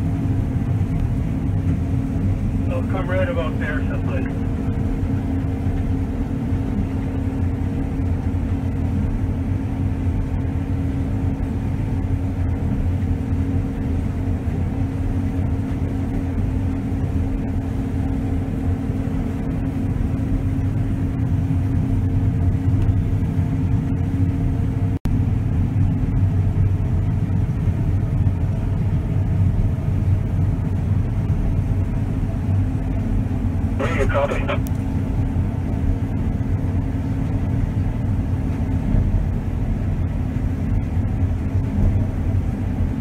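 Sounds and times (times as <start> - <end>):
combine harvester drone from cab: 0.0 - 43.0.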